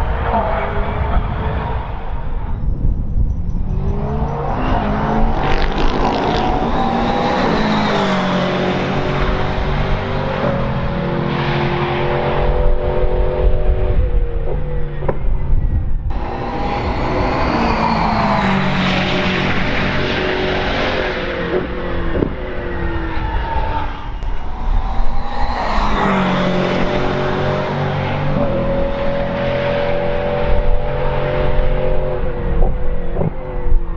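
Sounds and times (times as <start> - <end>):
race car engine revving: 3.8 - 14.9, 16.1 - 33.9.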